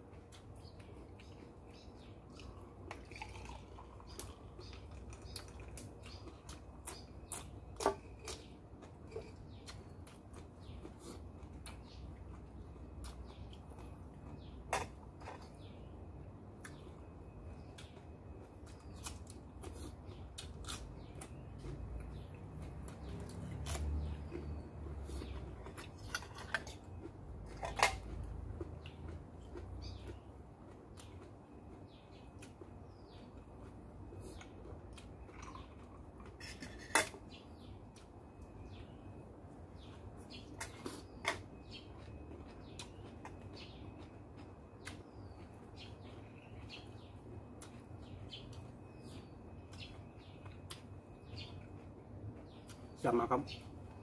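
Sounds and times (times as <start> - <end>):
chewing food: 0.0 - 54.0
small birds chirping: 0.0 - 54.0.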